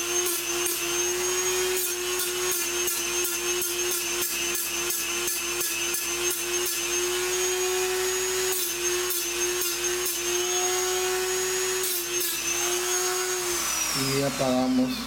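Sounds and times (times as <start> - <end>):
cutoff wheel grinding metal: 0.0 - 15.0
rotary tool whine: 0.0 - 15.0.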